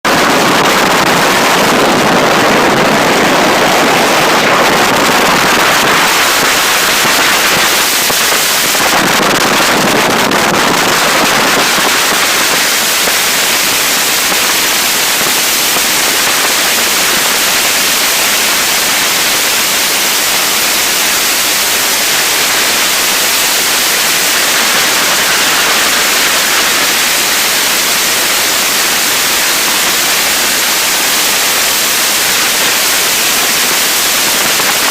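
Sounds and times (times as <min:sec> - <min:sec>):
wind buffeting phone microphone: 0:00.1 - 0:34.9.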